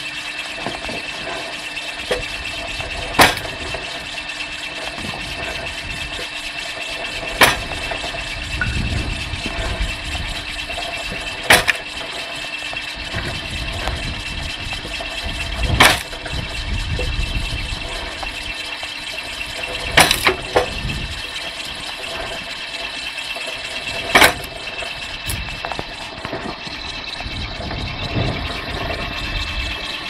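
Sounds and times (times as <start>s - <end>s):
firewood splitter running: 0.0s - 30.0s.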